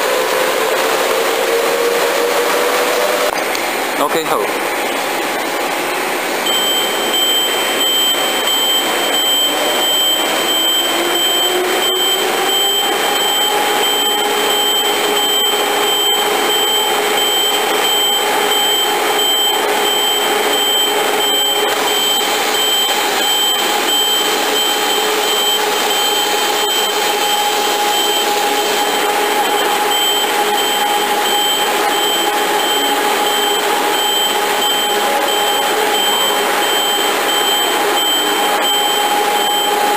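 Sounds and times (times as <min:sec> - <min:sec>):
machine motor whine: 0:04.6 - 0:39.9
thin steady high tone: 0:06.4 - 0:39.9.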